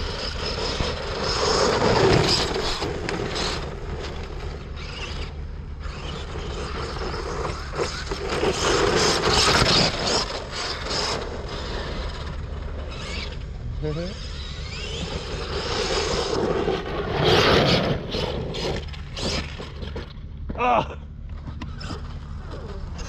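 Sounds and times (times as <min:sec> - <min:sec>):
toy truck motor whirring: 0:00.0 - 0:20.2, 0:21.3 - 0:23.0
tyres on loose ground: 0:00.0 - 0:23.0.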